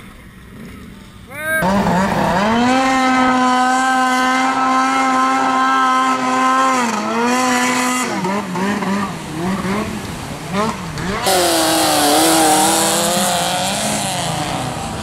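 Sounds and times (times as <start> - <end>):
snowmobile engine at high revs: 0.4 - 15.0.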